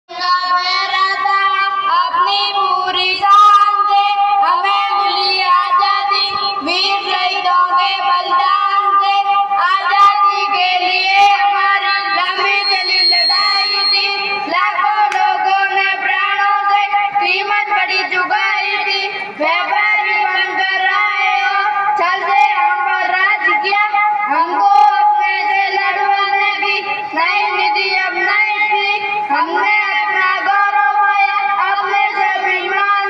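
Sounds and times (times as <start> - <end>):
boy singing into a microphone: 0.1 - 33.0.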